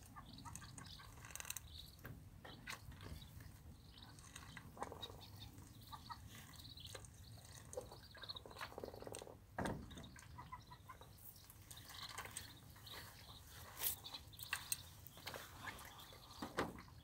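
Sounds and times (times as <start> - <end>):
ducklings chirping: 0.0 - 17.0.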